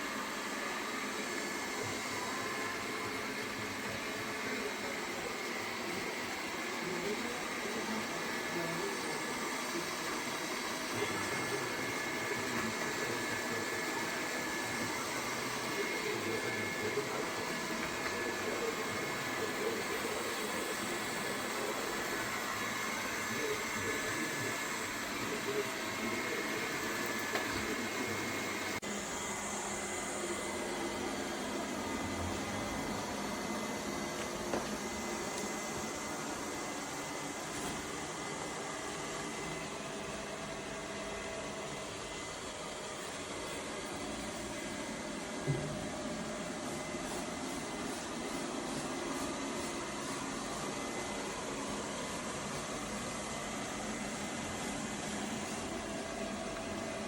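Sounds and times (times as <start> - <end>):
robot vacuum running: 0.0 - 57.0.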